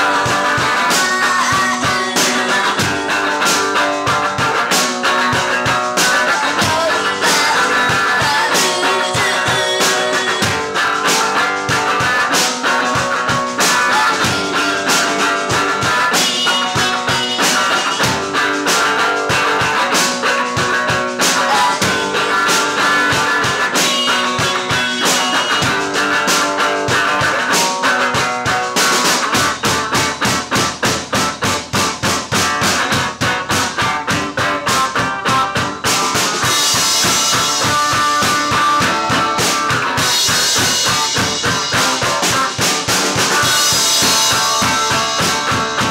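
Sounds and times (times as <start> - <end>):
drum kit: 0.0 - 45.9
electric guitar: 0.0 - 45.9
live rock band: 0.0 - 45.9.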